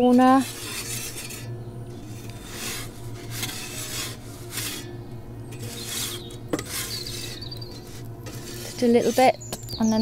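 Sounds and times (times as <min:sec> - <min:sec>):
metal peel scraping stone: 0:00.0 - 0:10.0.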